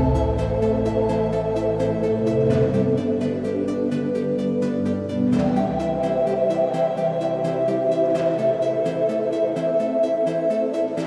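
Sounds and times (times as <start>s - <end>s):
electronic synth chords: 0.0s - 11.0s.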